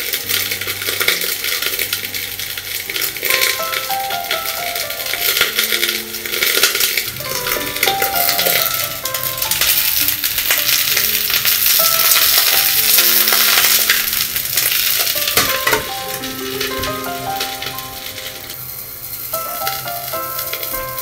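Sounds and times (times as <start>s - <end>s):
slices sizzling in hot oil: 0.0s - 21.0s.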